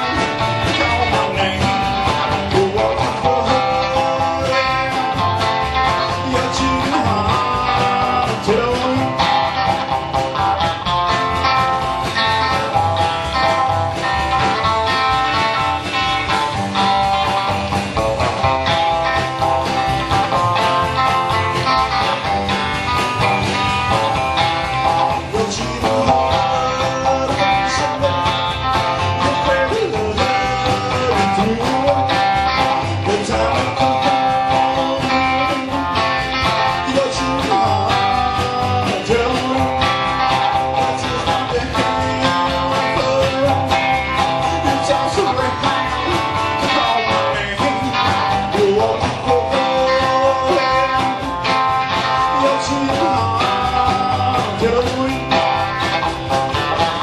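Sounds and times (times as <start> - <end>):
acoustic rhythm guitar: 0.0 - 57.0
drums: 0.0 - 57.0
electric guitar: 0.0 - 57.0
upright bass: 0.0 - 57.0.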